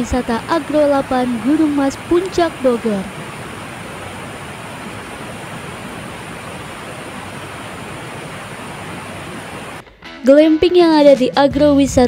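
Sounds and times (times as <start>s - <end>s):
river flowing over rocks: 0.0s - 9.8s.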